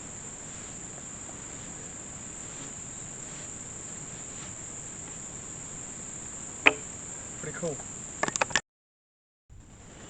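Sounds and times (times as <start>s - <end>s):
insects trilling: 0.0s - 8.6s.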